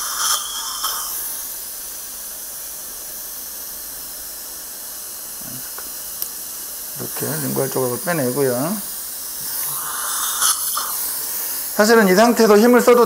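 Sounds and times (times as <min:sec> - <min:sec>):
dental suction hissing: 0:00.0 - 0:13.0.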